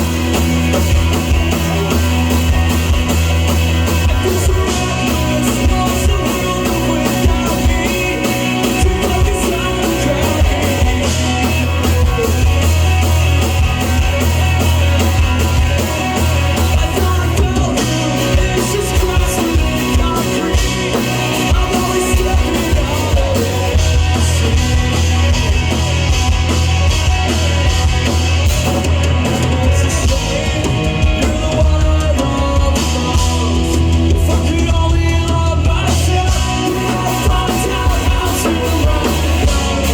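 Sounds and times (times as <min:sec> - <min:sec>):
person singing: 0:00.0 - 0:25.8, 0:28.7 - 0:39.9
drum kit beat: 0:00.0 - 0:39.9
heavy bass: 0:00.0 - 0:39.9
live rock band playing: 0:00.0 - 0:39.9.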